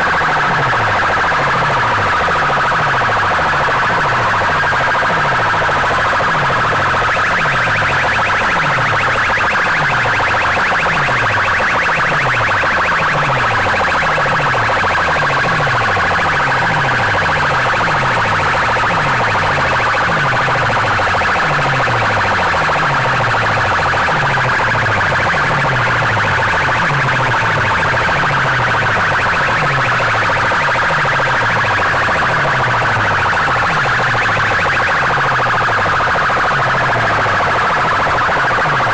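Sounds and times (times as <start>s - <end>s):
distorted electronic music on loudspeakers: 0.0s - 38.9s.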